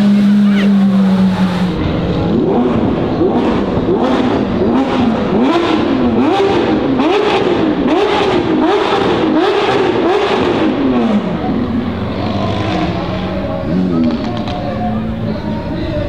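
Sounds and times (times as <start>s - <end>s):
car engine revving in blips: 0.0s - 15.3s.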